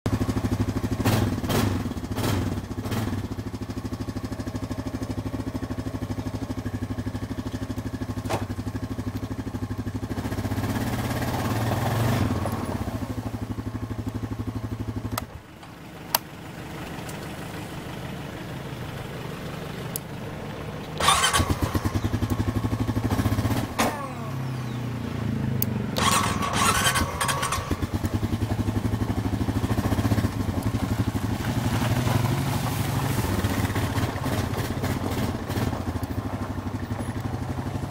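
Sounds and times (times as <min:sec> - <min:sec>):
atv engine running: 0:00.1 - 0:37.9.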